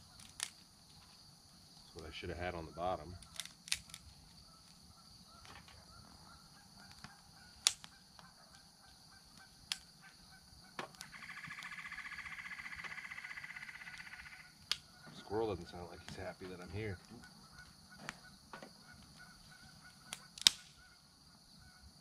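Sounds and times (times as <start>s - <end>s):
twig fire popping: 0.0s - 1.8s, 3.0s - 12.0s, 13.9s - 20.9s.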